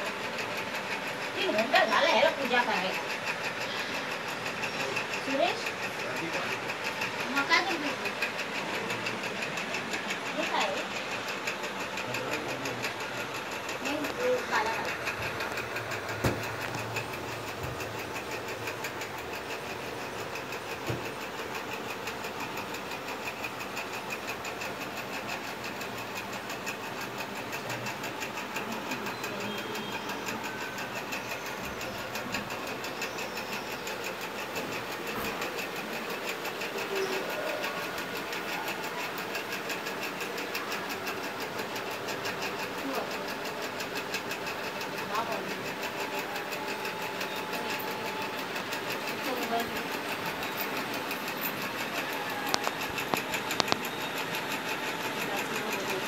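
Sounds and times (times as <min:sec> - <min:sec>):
machine running with fast pulse: 0:00.0 - 0:56.0.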